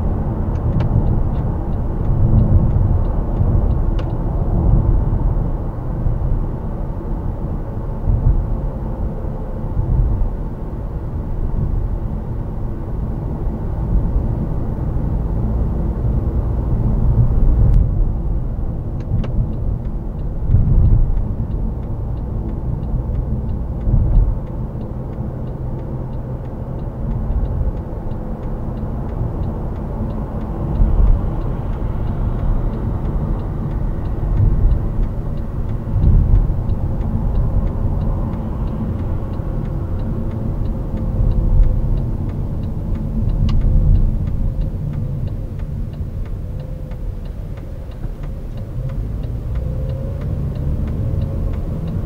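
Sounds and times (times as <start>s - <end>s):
car engine: 0.0s - 52.0s
tyre and road noise: 0.0s - 52.0s.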